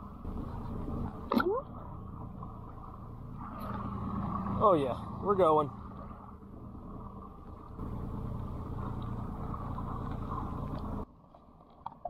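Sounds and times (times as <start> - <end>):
outboard motor running: 0.0 - 11.1.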